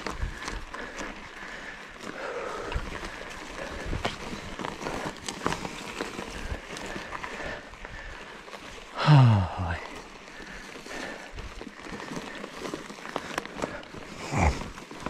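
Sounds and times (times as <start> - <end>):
bike knocking and rattling: 0.0 - 9.0, 9.6 - 15.0
bike tyres on rough trail: 0.0 - 15.0.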